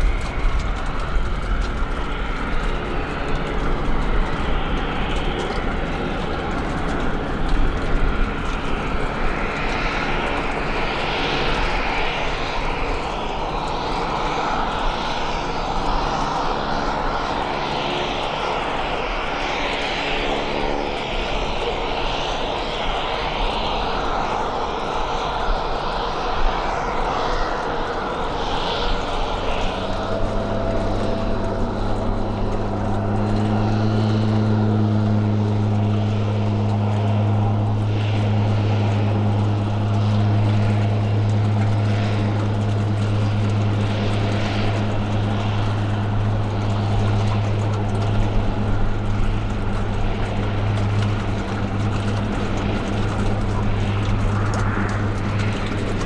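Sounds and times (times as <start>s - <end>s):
floatplane propeller drone: 0.0s - 56.0s.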